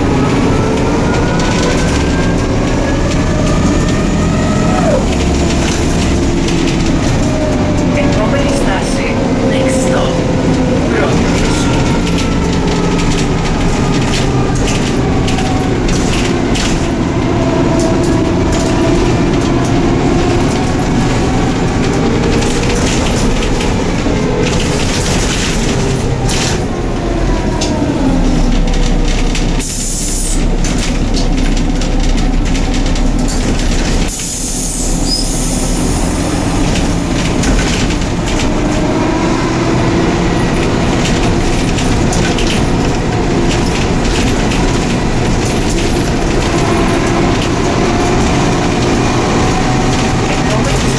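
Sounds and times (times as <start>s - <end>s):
bus engine: 0.0s - 50.9s
rattles and knocks from bus body: 0.0s - 50.9s.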